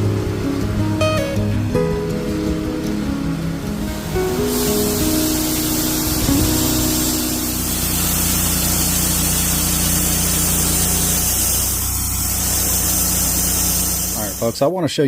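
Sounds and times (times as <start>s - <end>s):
sawmill engine humming: 2.4s - 14.8s.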